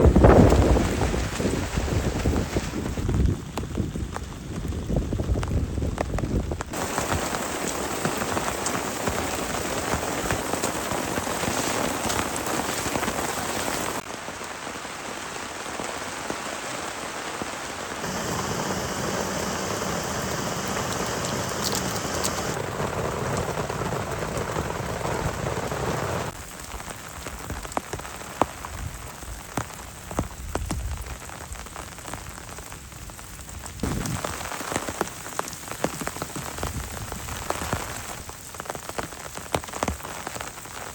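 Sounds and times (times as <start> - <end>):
heavy rain falling: 0.0 - 40.9
sharp close raindrops: 0.0 - 40.9.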